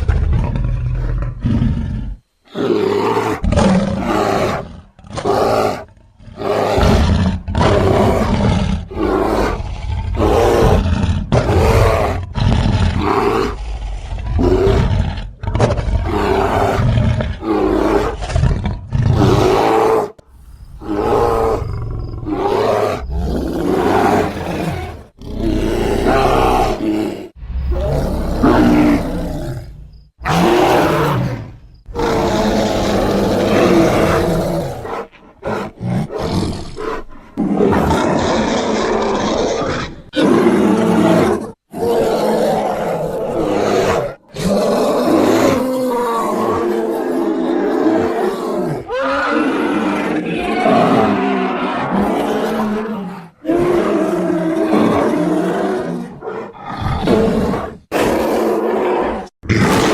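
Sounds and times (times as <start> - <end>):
bear roars and growls: 0.0 - 59.9.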